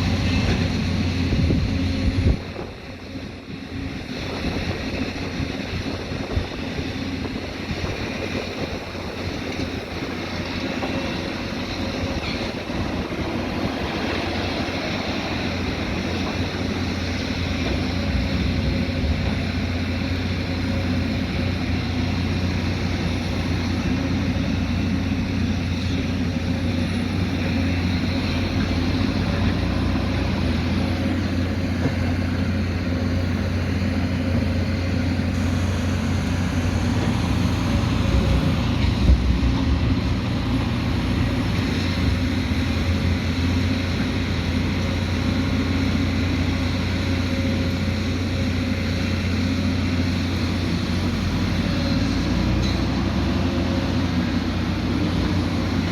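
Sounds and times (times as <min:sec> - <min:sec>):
diesel engine of earthmoving machine: 0:00.0 - 0:55.9.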